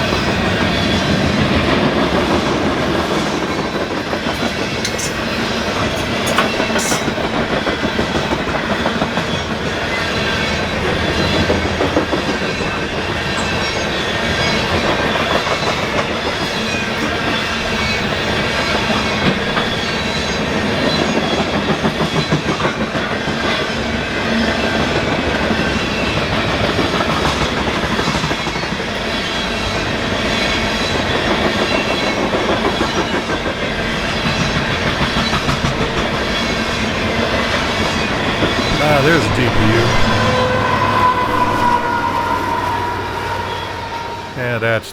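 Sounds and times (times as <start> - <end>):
freight train wheels clacking: 0.0 - 38.8.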